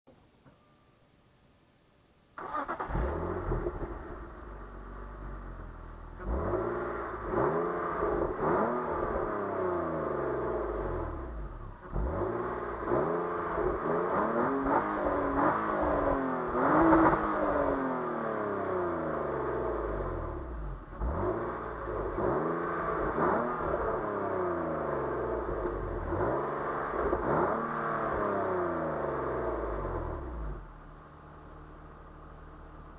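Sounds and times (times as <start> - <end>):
car engine starting and revving: 2.4 - 30.9.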